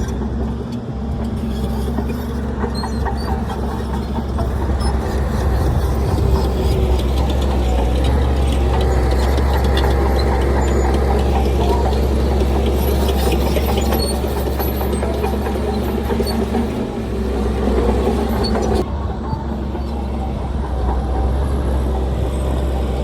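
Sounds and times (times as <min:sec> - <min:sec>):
heavy diesel engine humming: 0:00.0 - 0:23.0.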